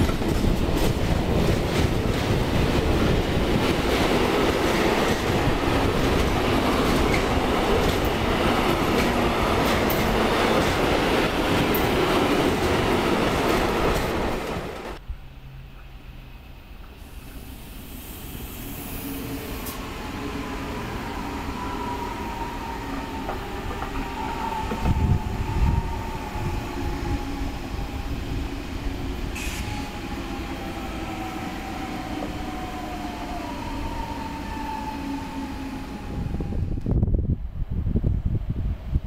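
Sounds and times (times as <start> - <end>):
train wheels rumbling on rail: 0.0 - 15.0, 16.8 - 39.0.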